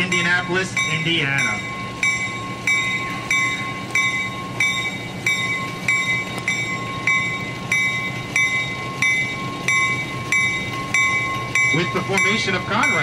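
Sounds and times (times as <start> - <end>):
diesel locomotive engine running: 0.0 - 13.0
locomotive bell ringing: 0.0 - 13.0.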